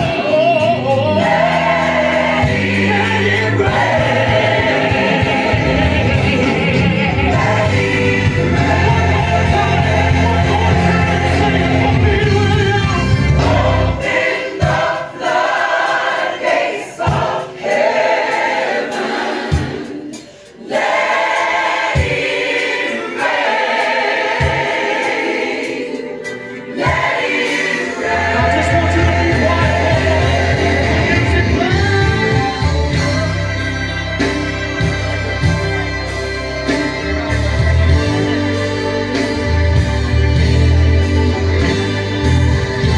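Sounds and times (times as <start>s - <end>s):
band with bass: 0.0s - 15.1s, 20.8s - 42.9s
gospel choir singing: 0.0s - 42.9s.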